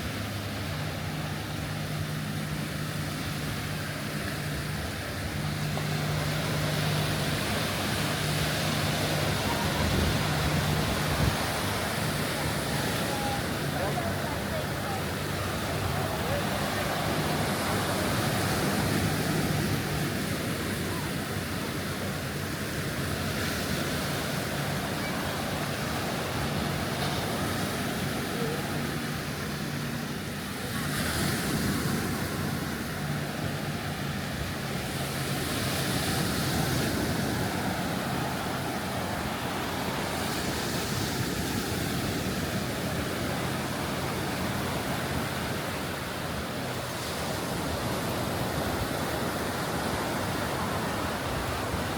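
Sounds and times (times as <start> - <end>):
waves breaking on beach: 0.0 - 51.9.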